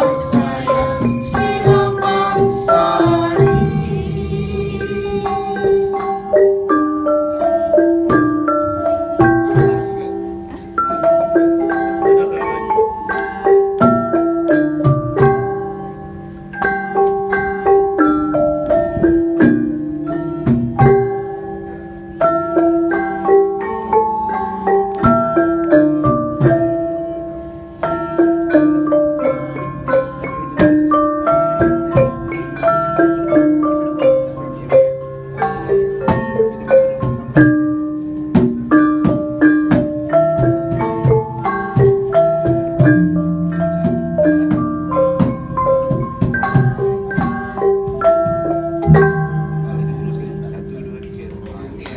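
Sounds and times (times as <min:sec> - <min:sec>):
gamelan ensemble playing: 0:00.0 - 0:51.9.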